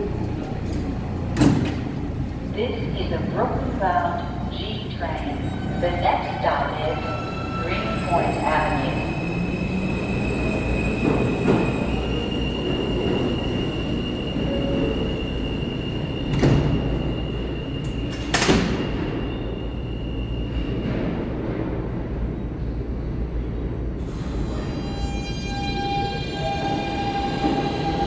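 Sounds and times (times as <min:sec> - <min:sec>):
subway train low hum: 0:00.0 - 0:28.0.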